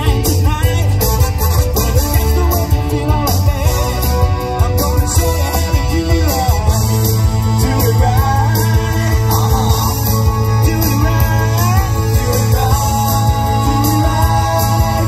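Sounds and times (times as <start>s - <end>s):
live band playing dance music: 0.0s - 15.0s.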